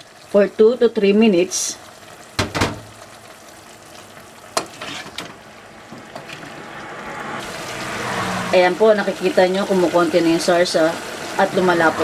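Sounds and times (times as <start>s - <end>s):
sauce bubbling in a pot: 0.0s - 12.0s.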